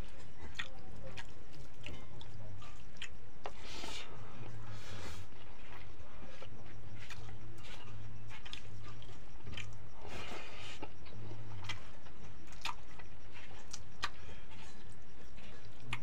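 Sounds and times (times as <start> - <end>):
chewing and lip smacks: 0.0 - 16.0.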